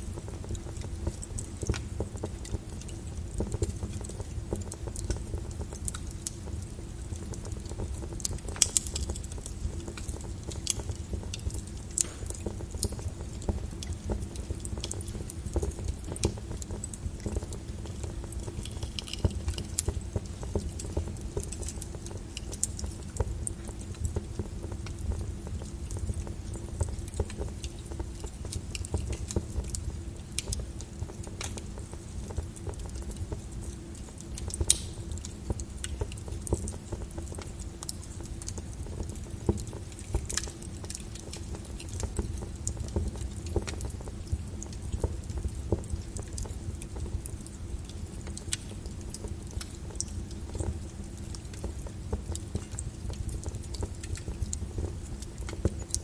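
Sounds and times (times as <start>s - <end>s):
rain patter: 0.0s - 56.0s
wood fire crackling and popping: 0.0s - 56.0s.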